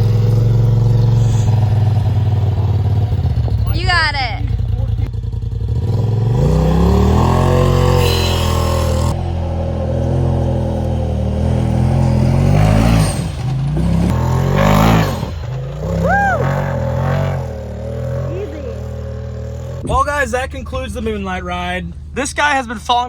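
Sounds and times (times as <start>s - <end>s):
utility vehicle engine revving: 0.0s - 23.0s.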